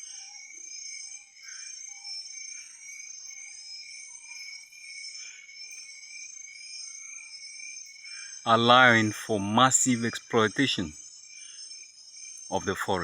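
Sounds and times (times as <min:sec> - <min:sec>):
insect chorus: 0:00.0 - 0:13.0.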